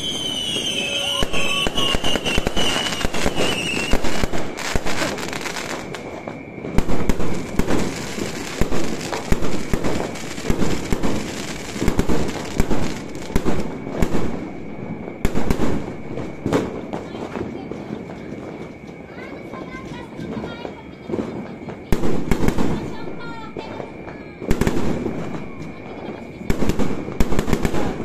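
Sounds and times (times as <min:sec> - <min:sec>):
fireworks bangs: 0:00.0 - 0:28.0
fireworks crackling: 0:00.0 - 0:28.0.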